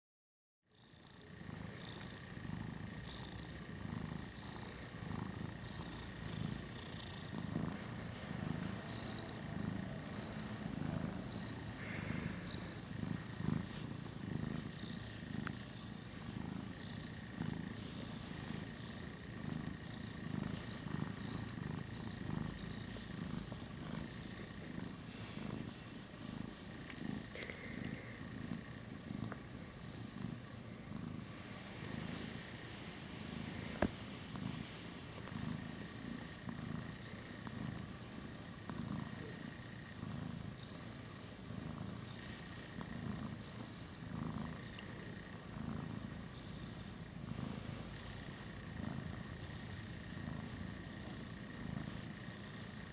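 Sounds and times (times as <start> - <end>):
cat purring: 0.7 - 52.9.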